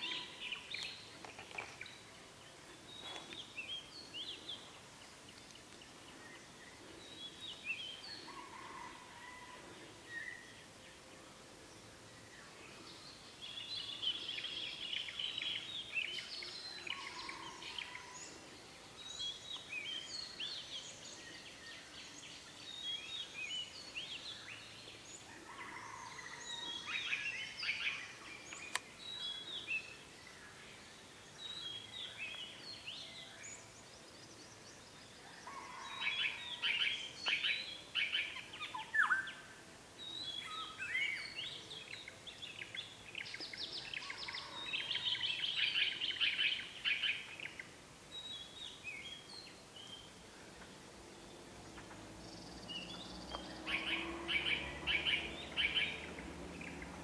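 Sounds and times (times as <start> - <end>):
birds singing and calling: 0.0 - 57.0.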